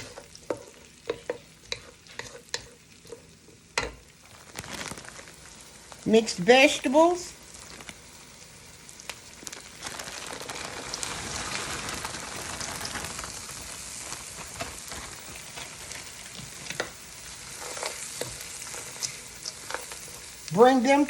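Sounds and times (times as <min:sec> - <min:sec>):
vegetables sizzling in butter: 0:00.0 - 0:21.0.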